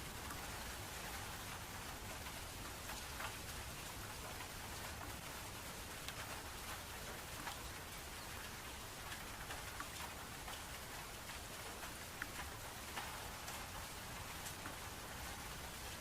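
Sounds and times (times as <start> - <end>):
raindrops dripping: 0.0 - 16.0.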